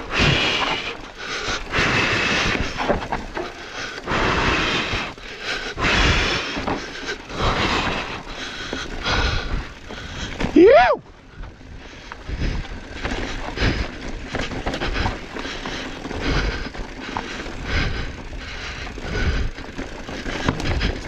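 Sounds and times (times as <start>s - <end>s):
bike rattling: 0.0s - 21.0s
bike tyres crunching over dirt: 0.0s - 21.0s.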